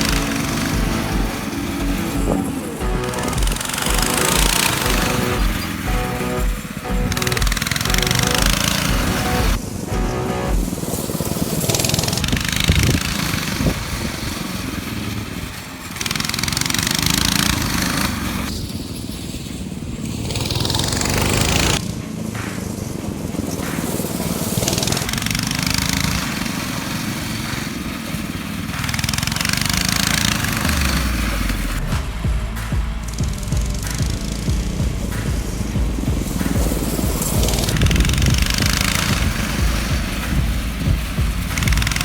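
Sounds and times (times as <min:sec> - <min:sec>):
mini bike engines racing: 0:00.0 - 0:42.0.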